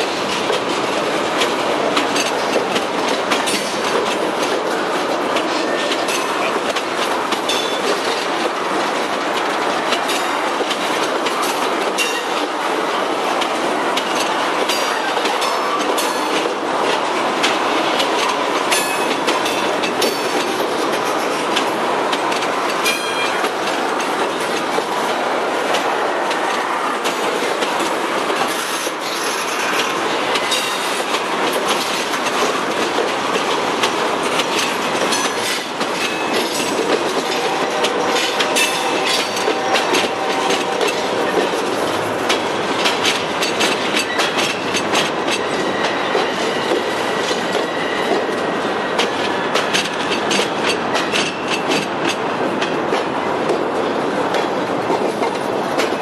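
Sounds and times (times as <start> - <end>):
clacks at rail joints: 0.0 - 56.0
steel wheels rumbling on rail: 0.0 - 56.0.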